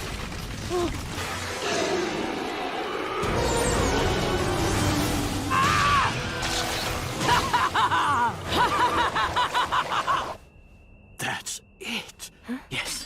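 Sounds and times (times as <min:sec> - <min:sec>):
background music: 0:01.6 - 0:13.0.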